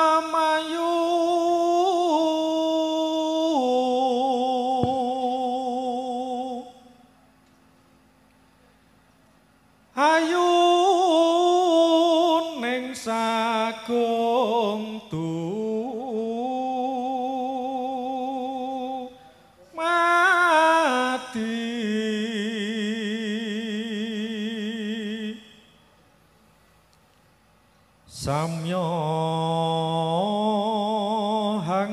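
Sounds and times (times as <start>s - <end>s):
man chanting into a microphone: 0.0s - 6.9s, 10.0s - 25.7s, 28.1s - 31.9s.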